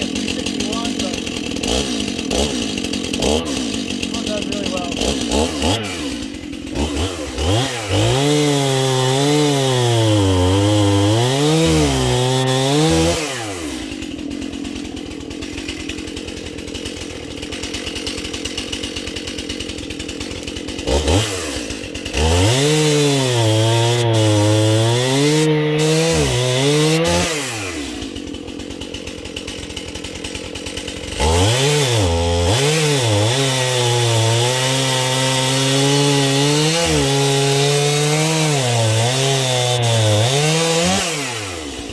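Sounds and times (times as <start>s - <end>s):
chainsaw cutting logs: 0.0s - 41.9s.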